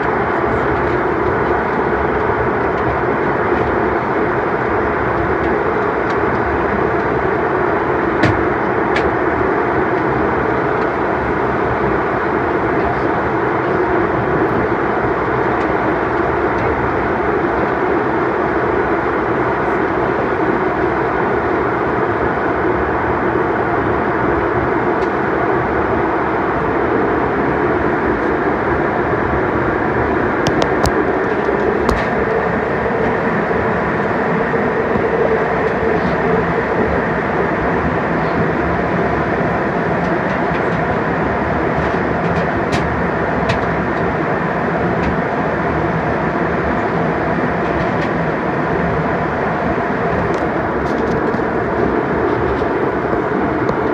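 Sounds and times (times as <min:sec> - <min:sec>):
airliner engines roaring in cabin: 0:00.0 - 0:53.9.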